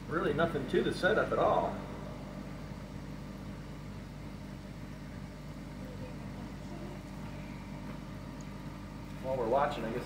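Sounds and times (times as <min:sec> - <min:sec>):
spin dryer motor humming: 0:00.0 - 0:10.0.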